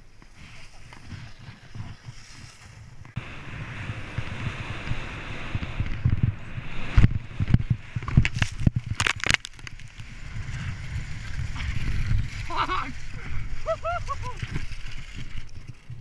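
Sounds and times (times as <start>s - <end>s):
skis scraping over snow: 0.2s - 9.0s, 9.7s - 16.0s
wind rumble on microphone: 0.4s - 16.0s.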